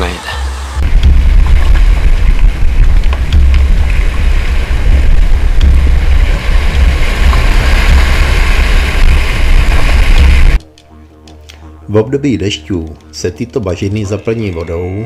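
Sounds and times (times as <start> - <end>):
low rumble: 0.4 - 13.5.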